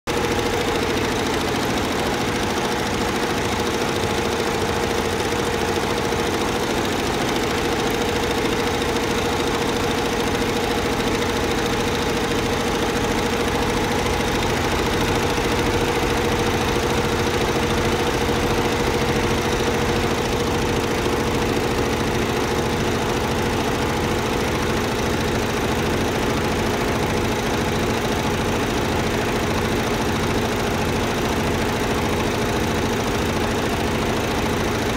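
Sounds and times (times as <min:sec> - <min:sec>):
embroidery machine stitching: 0:00.1 - 0:34.9.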